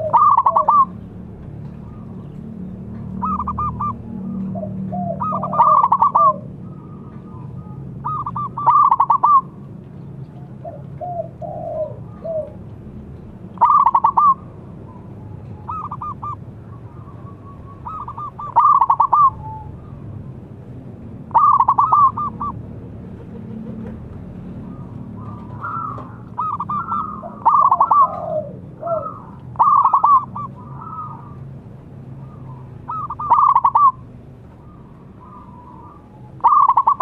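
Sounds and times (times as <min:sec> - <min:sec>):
dove cooing: 0:00.0 - 0:01.0, 0:03.0 - 0:09.6, 0:10.4 - 0:12.6, 0:13.6 - 0:20.1, 0:21.3 - 0:22.6, 0:23.2 - 0:31.4, 0:32.2 - 0:37.0.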